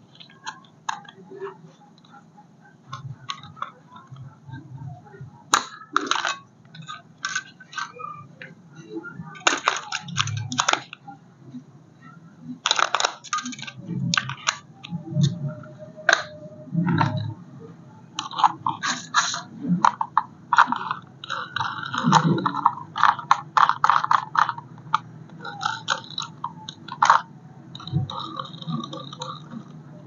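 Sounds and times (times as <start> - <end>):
plastic crackling and clicking: 0.0 - 2.2, 2.8 - 8.6, 9.3 - 11.2, 12.6 - 17.4, 18.1 - 30.0.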